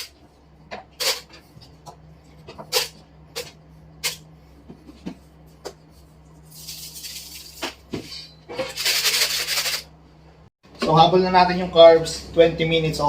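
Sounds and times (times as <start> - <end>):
air fryer oven humming: 0.0 - 13.0.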